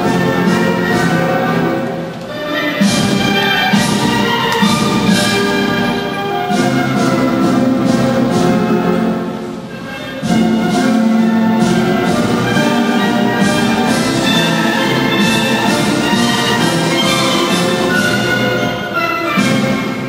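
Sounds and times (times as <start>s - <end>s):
orchestral music: 0.0s - 20.0s.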